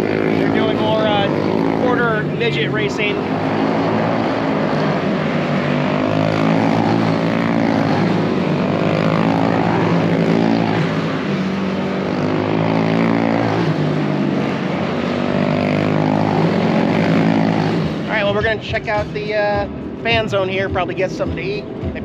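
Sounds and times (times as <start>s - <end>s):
small race car engines buzzing: 0.0s - 22.0s.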